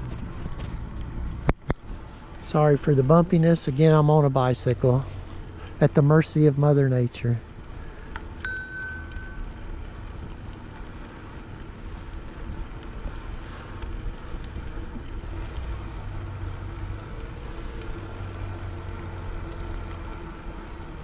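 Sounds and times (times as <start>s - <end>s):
faint clicks from bumps: 0.0s - 6.8s, 7.4s - 21.0s
tyres rolling over pavement: 0.0s - 21.0s.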